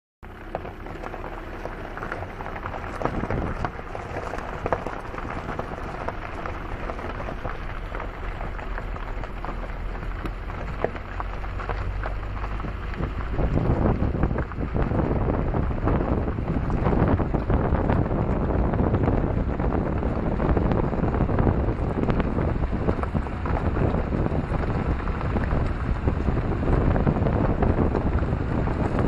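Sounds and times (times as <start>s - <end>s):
wind buffeting microphone: 0.4s - 29.0s
train rumbling: 0.5s - 29.0s.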